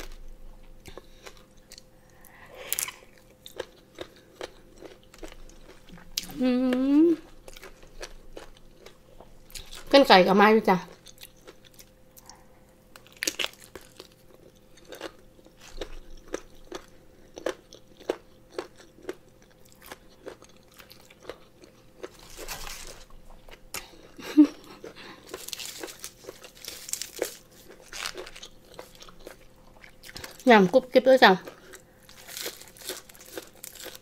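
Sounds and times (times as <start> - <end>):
crunchy chewing: 0.1 - 6.4, 7.2 - 9.9, 10.9 - 30.5, 31.4 - 34.0.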